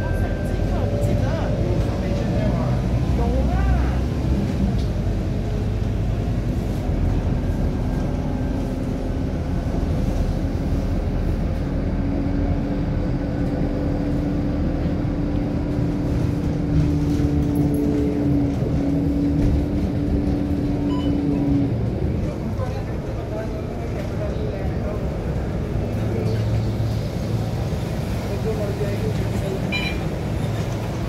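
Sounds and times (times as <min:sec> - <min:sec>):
bus engine and road rumble: 0:00.0 - 0:31.0
bus whine: 0:00.0 - 0:31.0.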